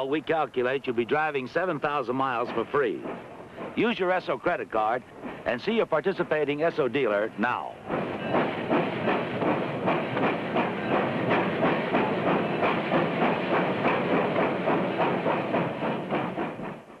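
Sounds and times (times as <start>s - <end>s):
train clattering along rails: 0.0s - 17.0s.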